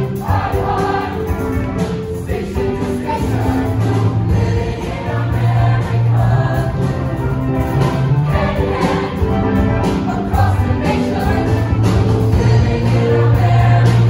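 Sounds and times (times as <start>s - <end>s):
choir singing: 0.0s - 14.0s
instrumental accompaniment: 0.0s - 14.0s.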